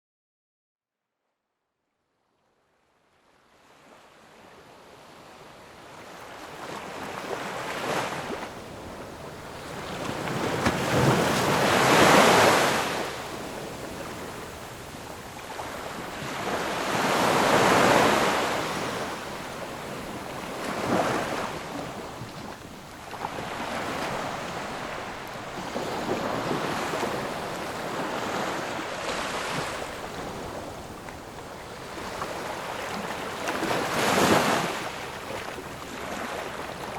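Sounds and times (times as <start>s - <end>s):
ocean waves breaking: 3.6s - 36.9s.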